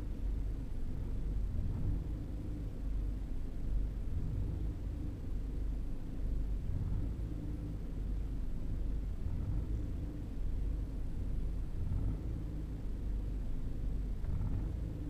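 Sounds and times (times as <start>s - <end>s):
engine idling rough: 0.0s - 15.0s.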